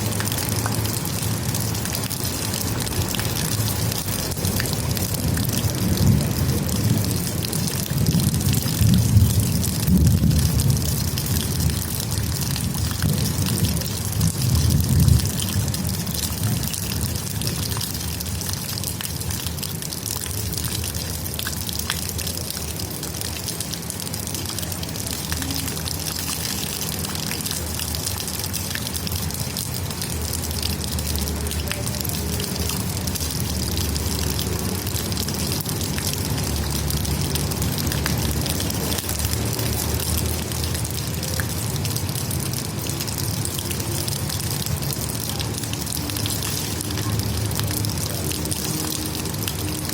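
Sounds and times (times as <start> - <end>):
rainwater trickling and splashing: 0.0 - 49.9
steady rain: 0.0 - 49.9.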